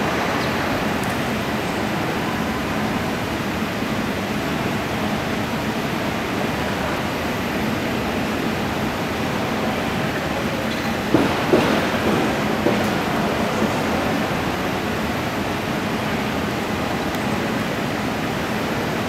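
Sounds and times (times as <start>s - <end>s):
hubbub of the hall: 0.0s - 19.0s.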